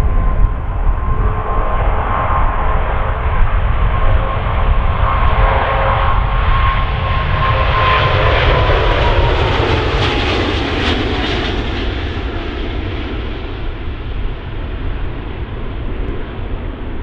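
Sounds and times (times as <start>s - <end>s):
jet airliner passing by: 0.0s - 17.0s.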